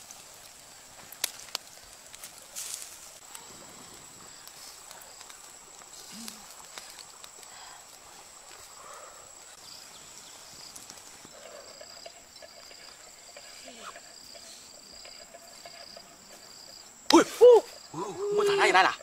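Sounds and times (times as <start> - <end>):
insect high-pitched whine: 1.7 - 19.0.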